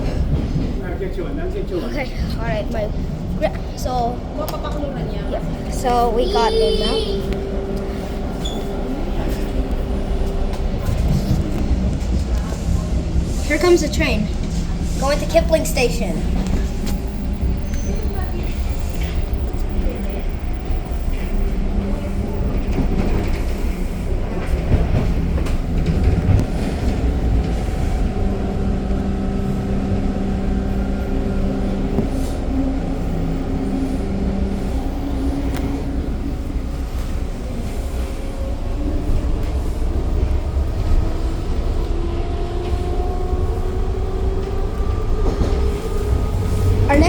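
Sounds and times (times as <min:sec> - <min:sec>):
wheels rumbling on rail: 0:00.0 - 0:47.0.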